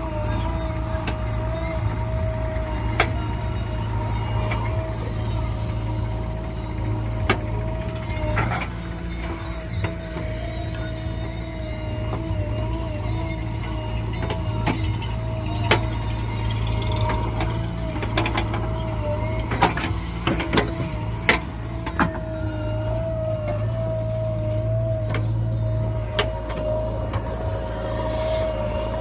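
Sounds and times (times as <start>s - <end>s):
excavator diesel engine running: 0.0s - 29.0s
wavering whine: 0.0s - 29.0s.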